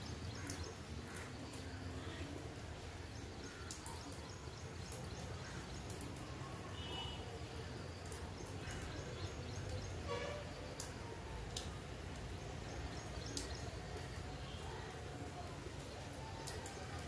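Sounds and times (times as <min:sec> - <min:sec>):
wind and rain: 0:00.0 - 0:17.0.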